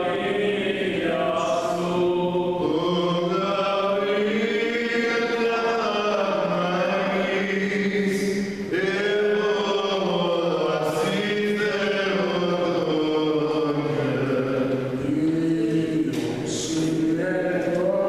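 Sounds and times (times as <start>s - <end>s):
liturgical chant singing: 0.0s - 18.0s.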